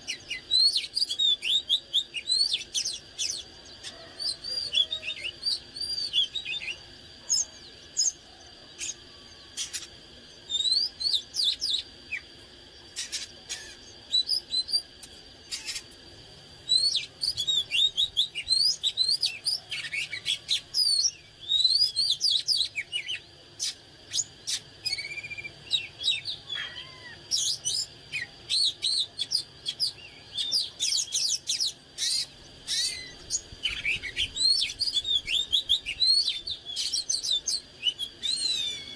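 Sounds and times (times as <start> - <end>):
bird singing: 0.0 - 38.9
faint steady high tone: 0.0 - 38.9.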